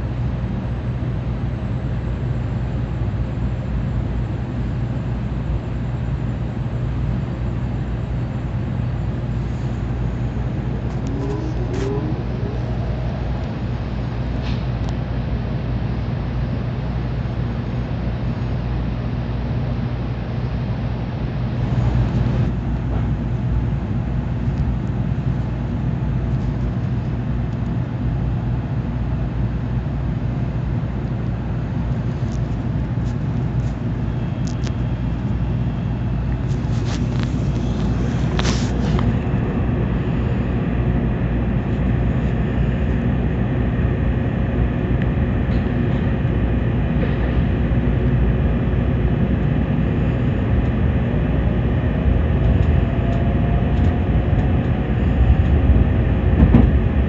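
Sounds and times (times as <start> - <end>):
train interior low rumble: 0.0 - 57.0.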